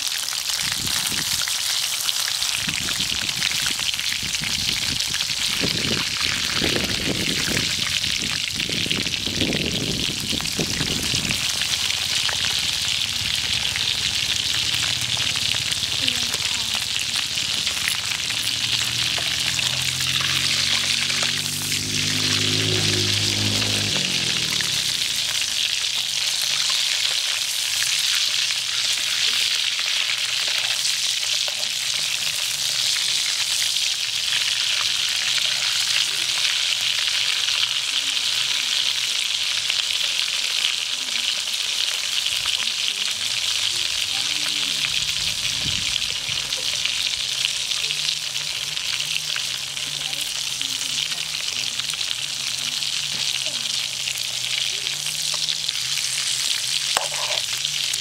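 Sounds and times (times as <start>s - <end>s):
oil sizzling and bubbling: 0.0s - 58.0s.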